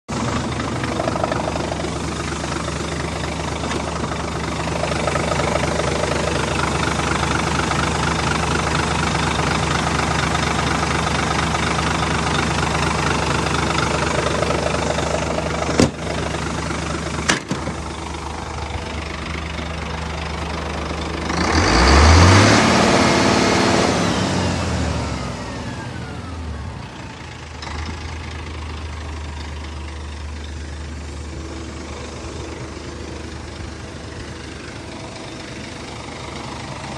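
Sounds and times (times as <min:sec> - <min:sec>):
diesel truck engine idling and revving: 0:00.1 - 0:36.9.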